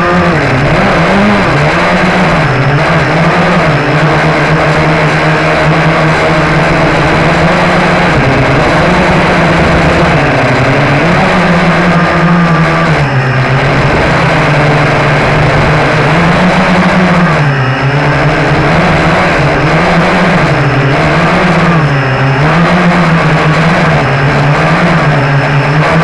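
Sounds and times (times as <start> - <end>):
quadcopter motors humming: 0.0 - 26.0.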